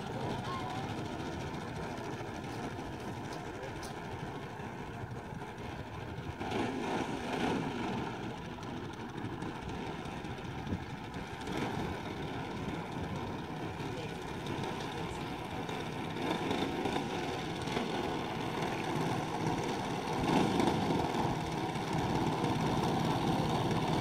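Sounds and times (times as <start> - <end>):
model aircraft engine idling: 0.0 - 24.0.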